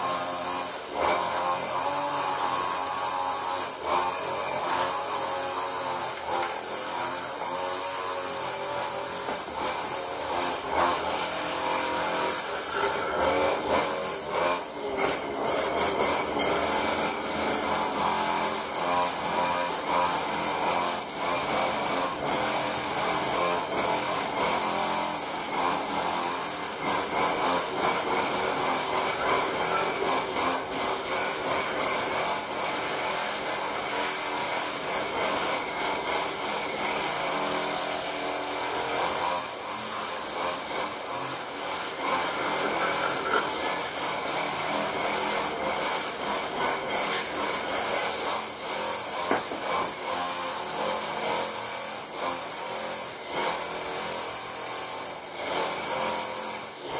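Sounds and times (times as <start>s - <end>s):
power tool whining and grinding: 0.0s - 56.9s.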